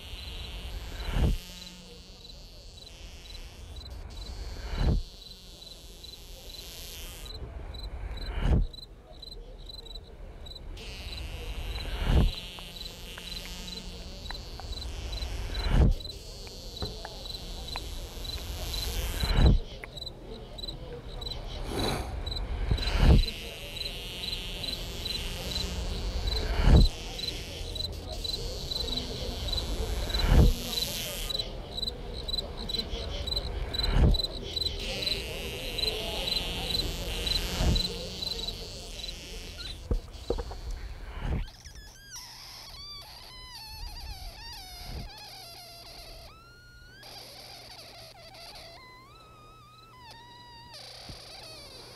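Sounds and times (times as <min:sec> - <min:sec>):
cricket-like chirp: 0:00.0 - 0:51.9.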